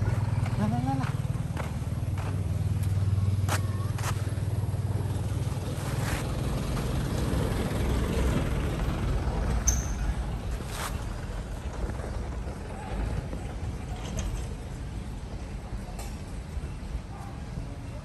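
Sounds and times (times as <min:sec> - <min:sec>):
vehicle engine running: 0:00.0 - 0:15.8.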